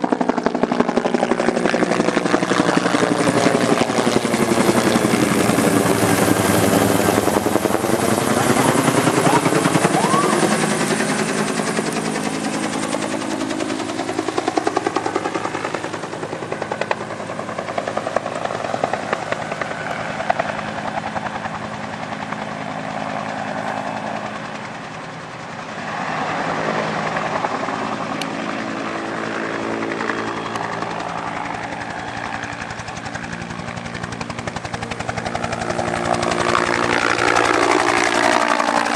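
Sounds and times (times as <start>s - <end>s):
helicopter rotor chopping: 0.0s - 38.9s
helicopter turbine whine: 0.0s - 38.9s.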